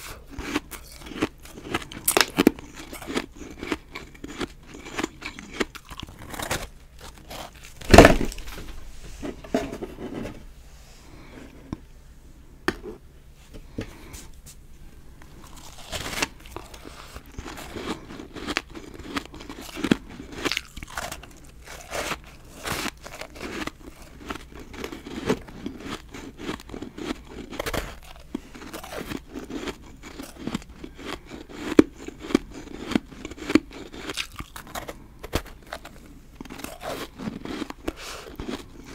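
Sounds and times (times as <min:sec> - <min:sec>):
chewing crunchy snowballs: 0:00.0 - 0:09.4, 0:15.2 - 0:38.9.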